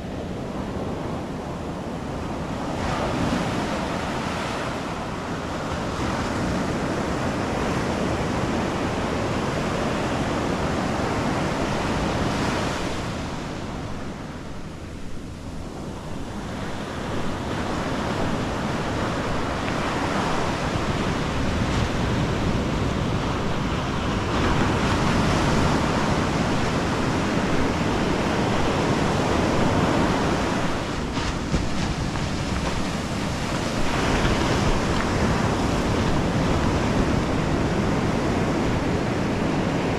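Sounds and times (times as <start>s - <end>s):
ocean surf breaking: 0.0s - 39.9s
wind noise on microphone: 0.0s - 39.9s.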